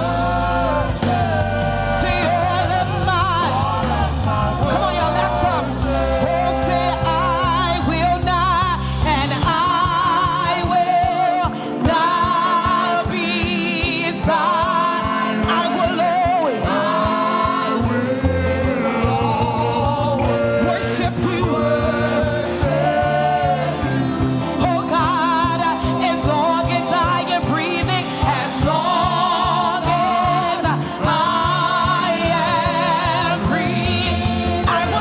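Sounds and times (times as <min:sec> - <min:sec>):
band accompaniment with bass: 0:00.0 - 0:35.0
person singing with vibrato: 0:00.0 - 0:35.0.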